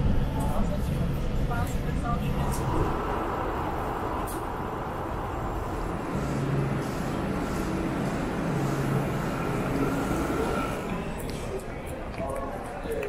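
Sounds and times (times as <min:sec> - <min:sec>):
low hum: 0:00.0 - 0:11.8
station background rumble: 0:00.0 - 0:12.7.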